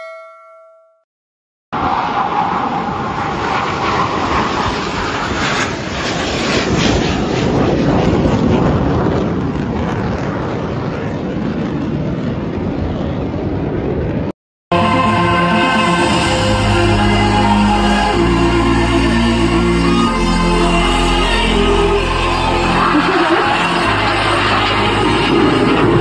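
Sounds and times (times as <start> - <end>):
jet engines flying past: 1.8 - 14.3, 17.3 - 26.0.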